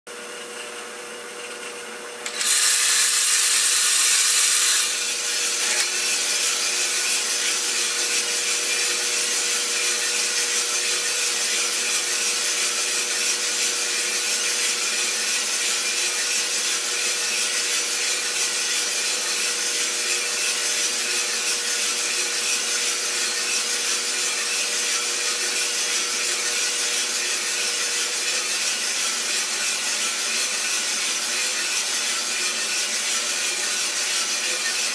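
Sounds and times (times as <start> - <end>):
coffee roaster rushing hum: 0.1 - 34.9.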